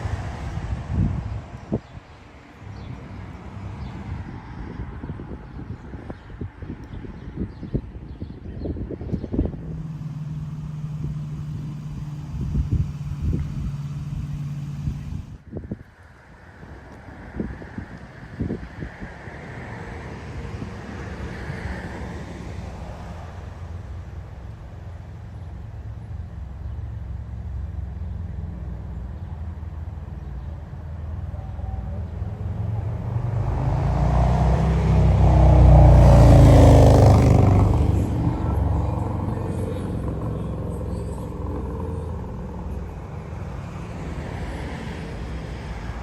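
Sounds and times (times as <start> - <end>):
diesel locomotive engine hum: 0.0 - 6.7, 8.8 - 15.5, 20.7 - 46.0.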